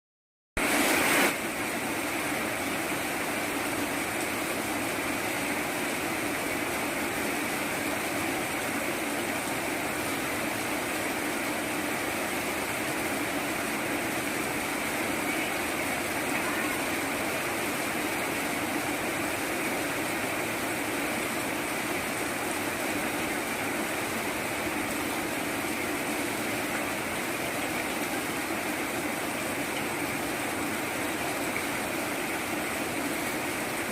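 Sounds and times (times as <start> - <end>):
steady rain falling: 0.6 - 33.9.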